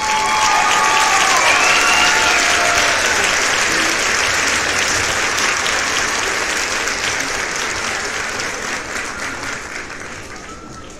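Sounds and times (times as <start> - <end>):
hands clapping: 0.0 - 10.9.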